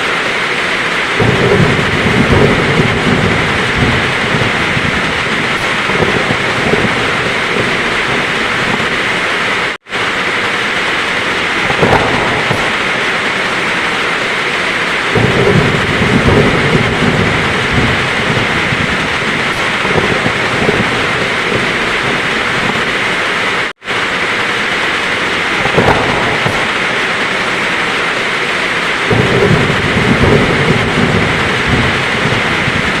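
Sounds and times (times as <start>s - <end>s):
heavy rain falling: 0.0s - 33.0s
thunder rumbling: 0.0s - 33.0s
thunder crack: 0.9s - 33.0s.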